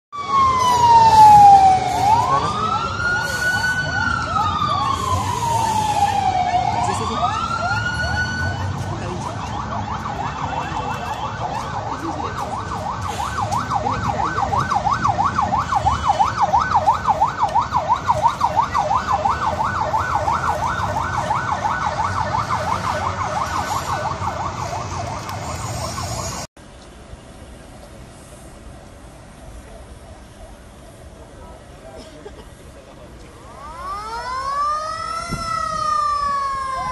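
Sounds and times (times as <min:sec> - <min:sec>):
emergency siren wailing and yelping: 0:00.1 - 0:26.5, 0:33.4 - 0:36.9
engines rumbling: 0:00.1 - 0:36.9.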